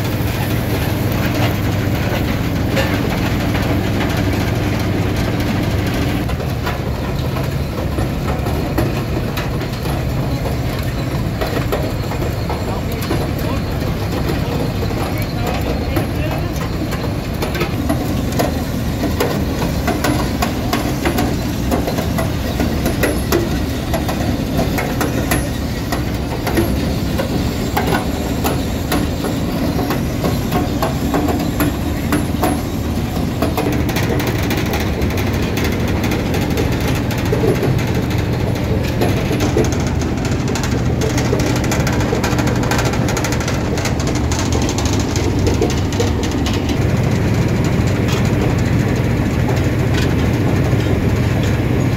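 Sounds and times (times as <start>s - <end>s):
rock crusher rumbling: 0.0s - 51.9s.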